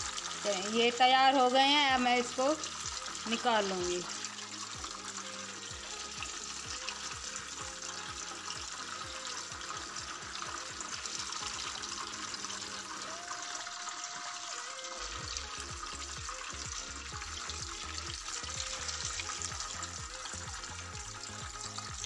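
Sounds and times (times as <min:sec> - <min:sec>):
hot oil sizzling in a frying pan: 0:00.0 - 0:22.0
soft background music: 0:00.0 - 0:22.0.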